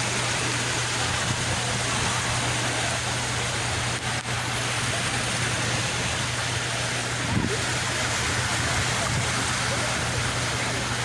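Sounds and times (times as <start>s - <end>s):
sea rushing: 0.0s - 11.0s.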